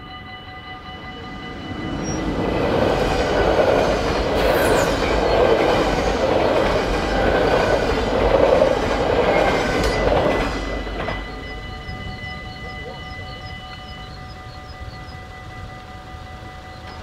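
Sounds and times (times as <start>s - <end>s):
crossing warning tones: 0.0s - 17.0s
train rushing past: 0.0s - 17.0s.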